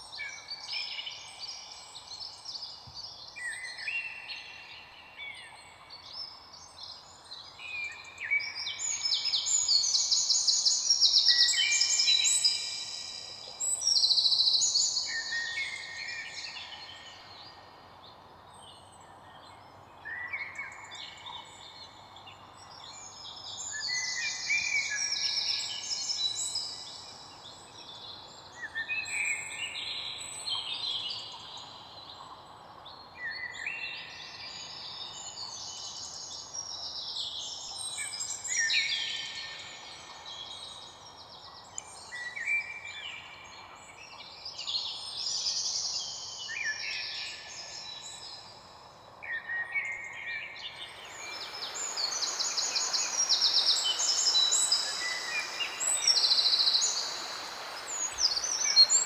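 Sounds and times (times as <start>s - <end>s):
songbirds chorus: 0.0s - 59.0s.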